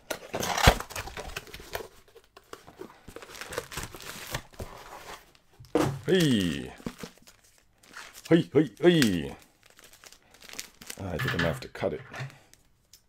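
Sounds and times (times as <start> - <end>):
cardboard rustling and crinkling: 0.1 - 12.8.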